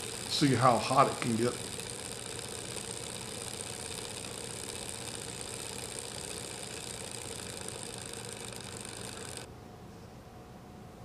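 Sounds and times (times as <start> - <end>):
small engine mechanical whir: 0.0 - 9.5.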